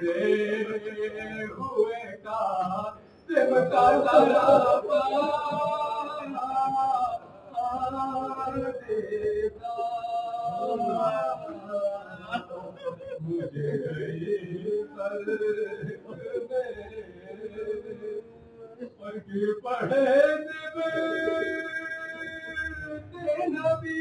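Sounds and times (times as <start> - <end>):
man chanting a lament: 0.0 - 24.0.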